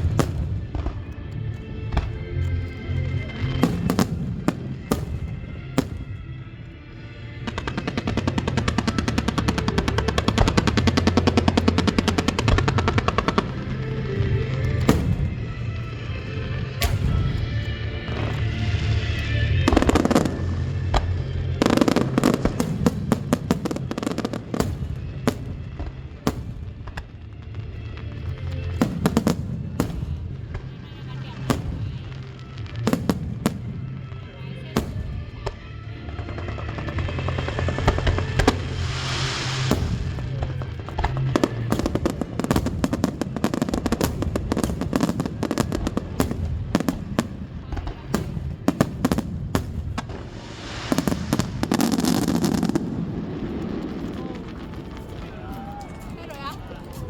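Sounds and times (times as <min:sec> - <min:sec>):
background music: 0:00.0 - 0:57.0
fireworks cracking: 0:00.0 - 0:57.0
fireworks crackling pops: 0:00.0 - 0:57.0.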